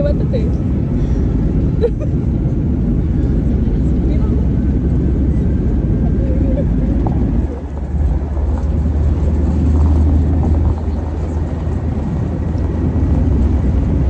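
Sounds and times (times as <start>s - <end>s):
airliner cabin jet engine rumble: 0.0s - 14.0s.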